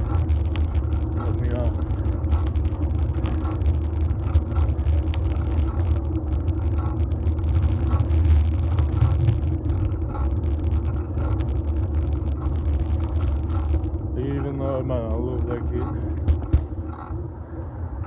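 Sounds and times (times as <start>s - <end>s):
bike tyres rumbling on pavement: 0.0s - 16.9s.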